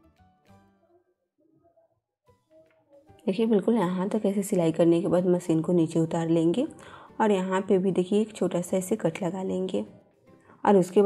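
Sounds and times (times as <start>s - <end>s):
faint instrumental music: 0.0s - 11.0s.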